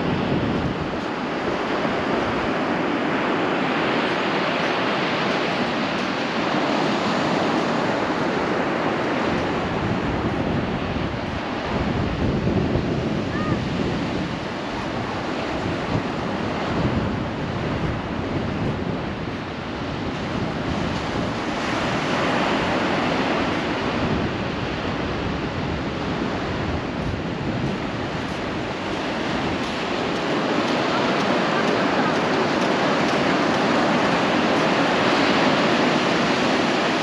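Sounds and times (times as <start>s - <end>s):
surf breaking on beach: 0.0s - 37.0s
wind on microphone: 0.0s - 37.0s.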